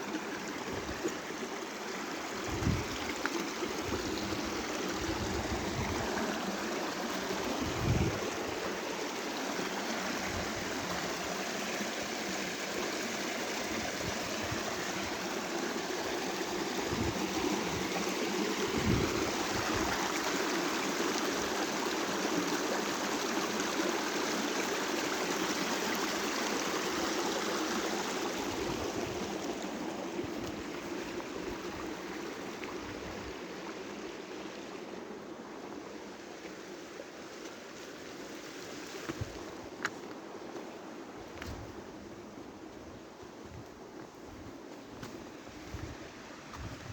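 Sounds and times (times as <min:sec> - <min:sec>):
rushing rainwater: 0:00.0 - 0:43.1.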